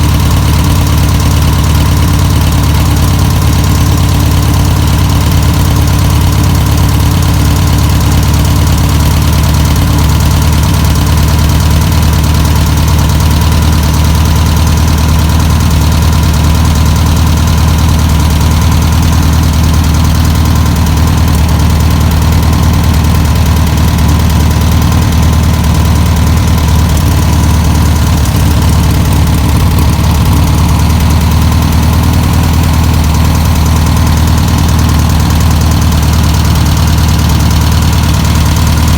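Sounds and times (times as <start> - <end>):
air-cooled engine running steadily: 0.0 - 38.9.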